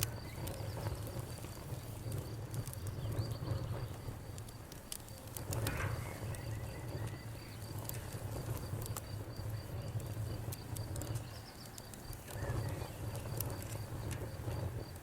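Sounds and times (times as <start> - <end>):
low fire rumble: 0.0 - 15.0
wood crackling and popping: 0.0 - 15.0.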